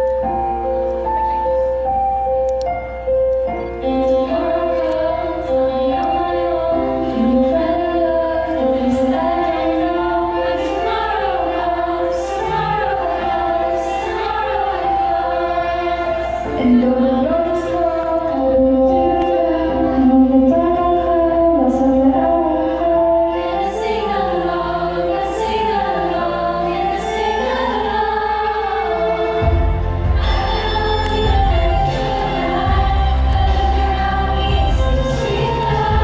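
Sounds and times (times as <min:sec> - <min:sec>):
choir singing in harmony: 0:03.6 - 0:36.0.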